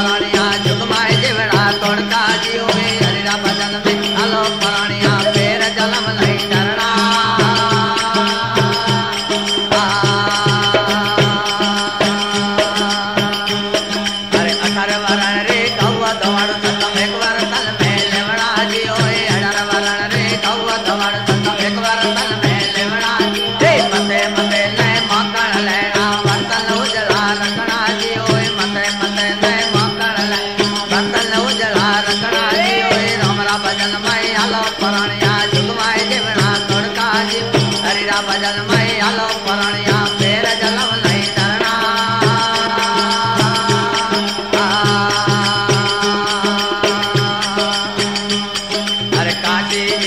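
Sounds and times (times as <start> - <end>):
steady drum beat: 0.0 - 50.0.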